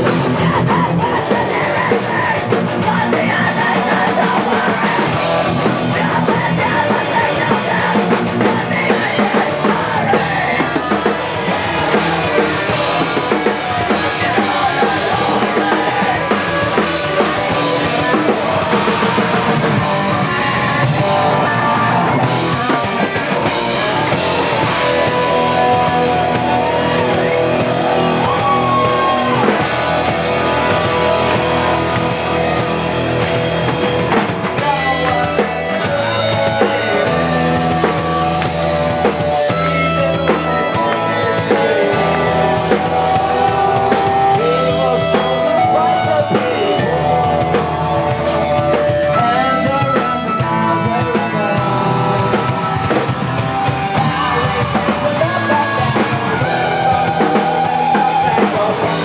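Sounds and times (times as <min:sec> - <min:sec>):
drum kit: 0:00.0 - 0:59.0
electric guitar: 0:00.0 - 0:59.0
rock band playing live: 0:00.0 - 0:59.0.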